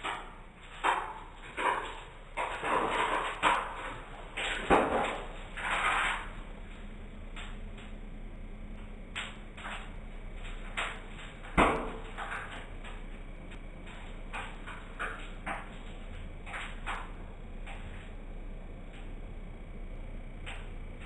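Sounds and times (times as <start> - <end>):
microwave oven humming: 0.0 - 21.0
sharp crackles and snaps: 0.0 - 21.0.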